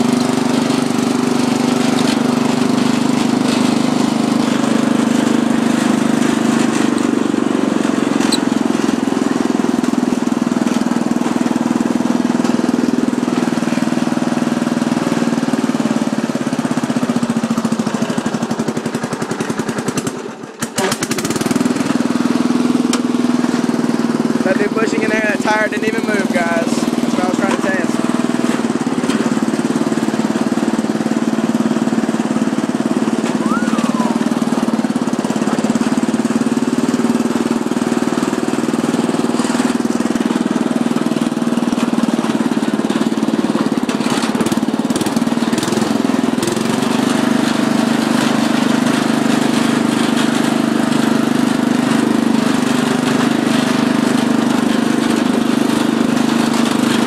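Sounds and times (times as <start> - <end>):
riding mower engine running: 0.0 - 57.0.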